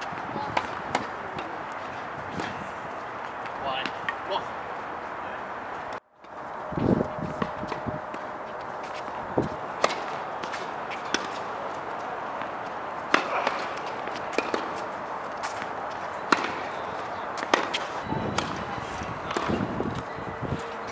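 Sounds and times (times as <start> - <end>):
tennis balls struck by rackets: 0.0 - 4.5, 7.3 - 20.1
tennis balls bouncing on court: 0.0 - 5.1, 7.3 - 20.1.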